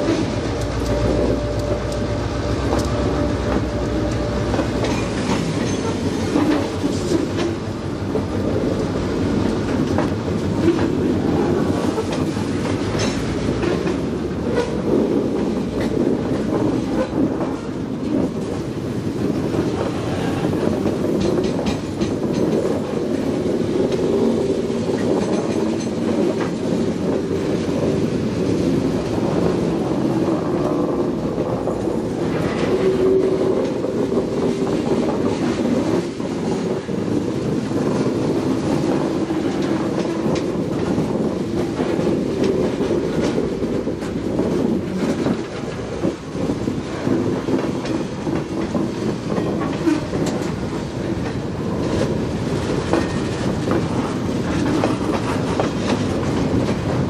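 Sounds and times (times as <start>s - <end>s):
train rumble: 0.0s - 57.0s
wheels clicking over rail joints: 0.0s - 57.0s.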